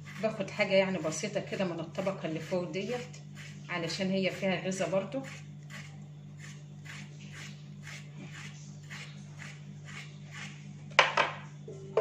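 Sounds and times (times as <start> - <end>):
knife scraping vegetable skin: 0.0 - 10.7
steady low hum: 0.0 - 12.0.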